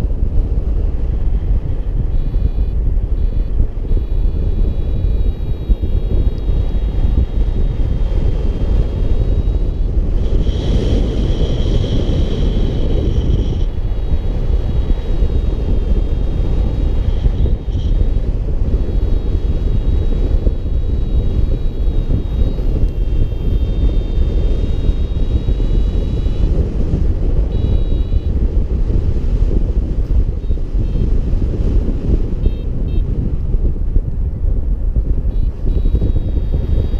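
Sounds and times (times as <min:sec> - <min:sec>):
wind rushing over microphone: 0:00.0 - 0:36.9.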